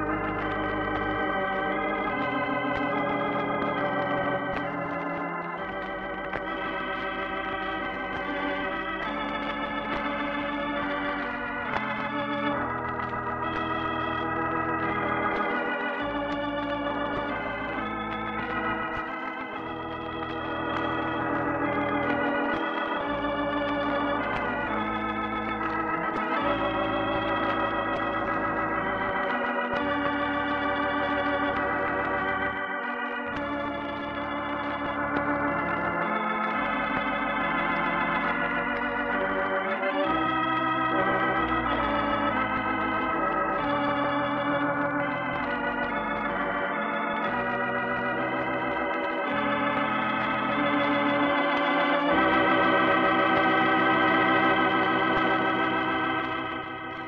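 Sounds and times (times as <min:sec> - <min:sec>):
organ chords with vibrato: 0:00.0 - 0:57.0.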